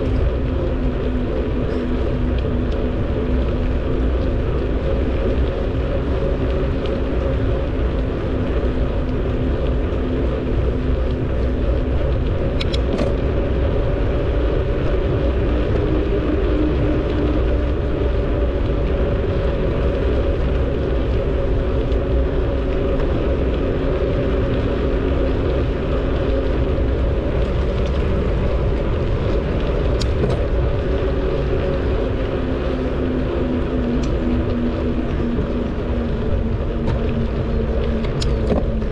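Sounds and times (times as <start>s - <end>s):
bicycle tyres rumbling and humming: 0.0s - 38.9s
wind rushing over microphone: 0.0s - 38.9s.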